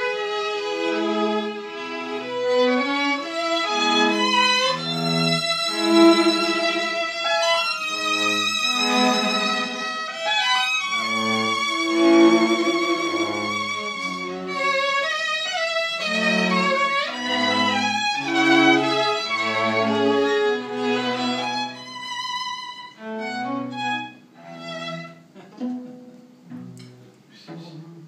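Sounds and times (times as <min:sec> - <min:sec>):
string quartet playing slow piece: 0:00.0 - 0:28.0.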